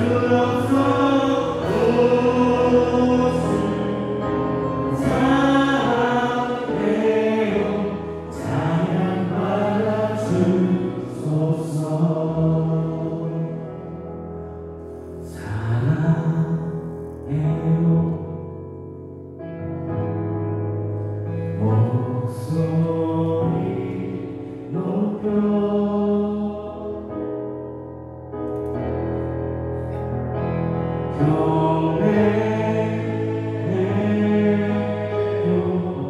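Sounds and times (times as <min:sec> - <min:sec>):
keyboard chords: 0:00.0 - 0:36.0.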